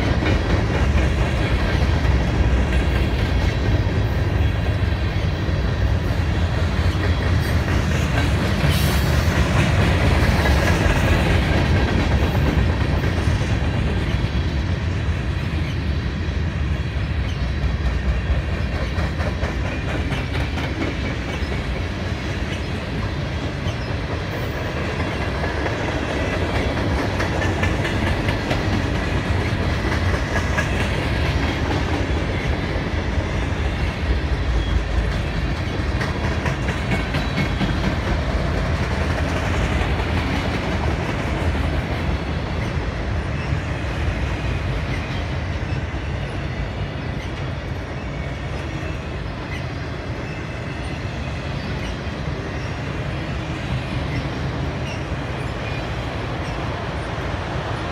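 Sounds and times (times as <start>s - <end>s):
freight train rumbling: 0.0s - 57.9s
steel wheels clacking on rails: 0.0s - 57.9s.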